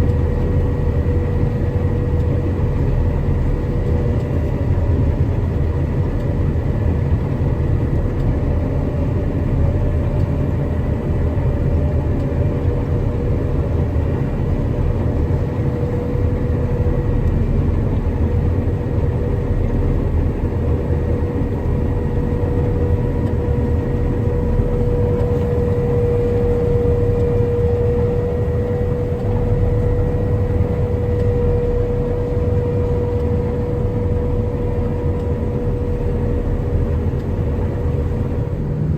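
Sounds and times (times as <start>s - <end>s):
combine harvester engine rumble: 0.0s - 38.9s
steady machine whine: 0.0s - 38.9s.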